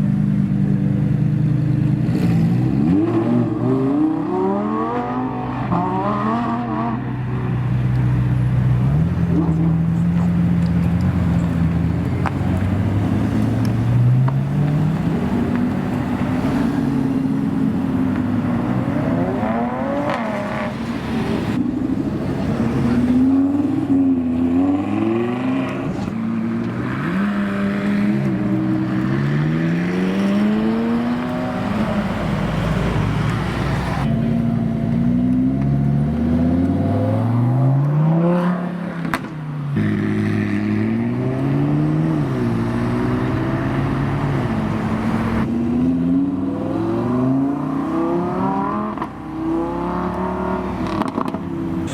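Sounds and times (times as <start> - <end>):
car engines accelerating hard: 0.0 - 51.9.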